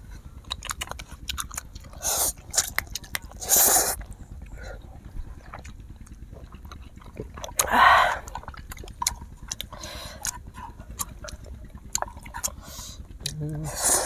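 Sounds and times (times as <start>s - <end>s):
chewing mouth noises: 0.0s - 14.0s.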